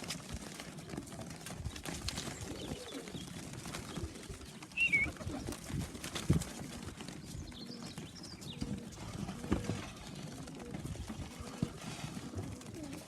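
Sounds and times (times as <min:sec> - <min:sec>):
pigeons flapping and shuffling: 0:00.0 - 0:13.0.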